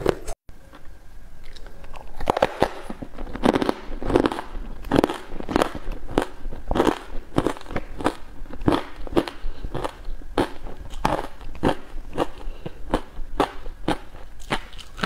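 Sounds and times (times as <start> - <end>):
ice being chewed: 1.4 - 15.0.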